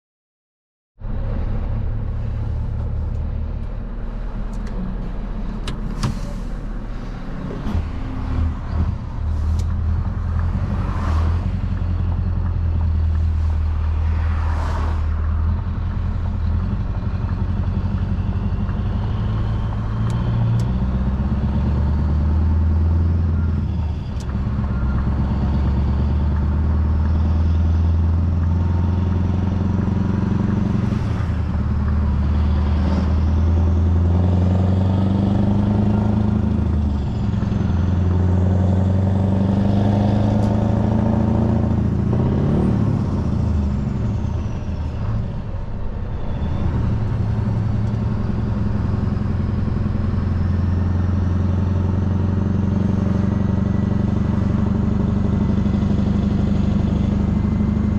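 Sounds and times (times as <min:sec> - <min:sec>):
diesel engine revving: 0:01.0 - 0:57.9.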